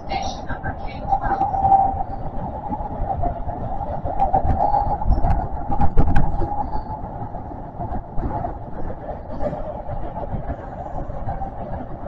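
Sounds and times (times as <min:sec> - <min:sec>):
electric train running hum: 0:00.0 - 0:12.0.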